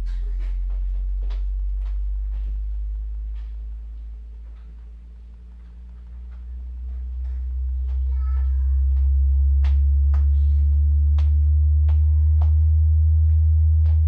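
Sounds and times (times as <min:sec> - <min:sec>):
rising sine-wave test tone: 0:00.0 - 0:14.0.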